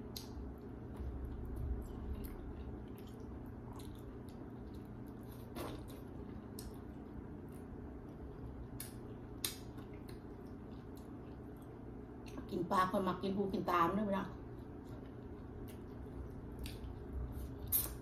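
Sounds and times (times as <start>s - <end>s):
person chewing: 0.0s - 12.4s, 14.4s - 18.0s
steady low hum: 0.0s - 18.0s.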